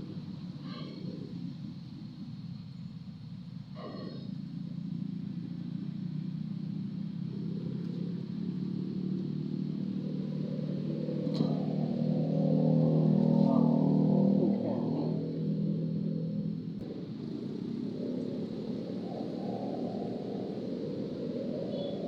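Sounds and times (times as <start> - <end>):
motor engine humming: 1.4 - 22.0.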